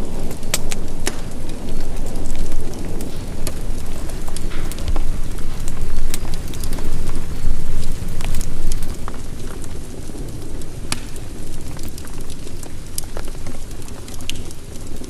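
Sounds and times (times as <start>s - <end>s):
heavy rain: 0.0s - 15.0s
ticks of raindrops: 0.0s - 15.0s.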